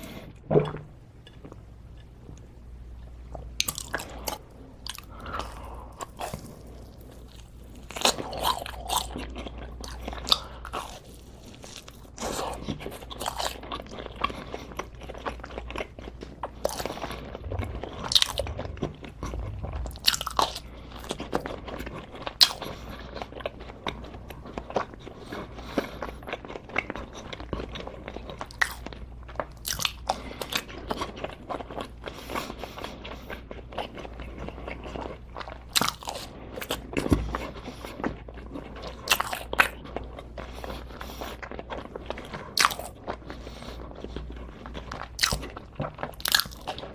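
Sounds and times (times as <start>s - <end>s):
person chewing crunchy food: 3.3s - 46.9s.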